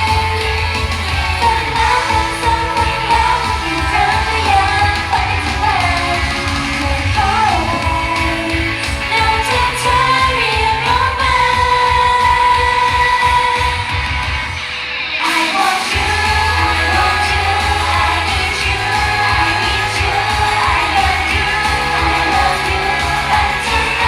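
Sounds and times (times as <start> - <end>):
steady beat: 0.0 - 14.5, 15.8 - 24.0
woman singing pop song: 0.0 - 24.0.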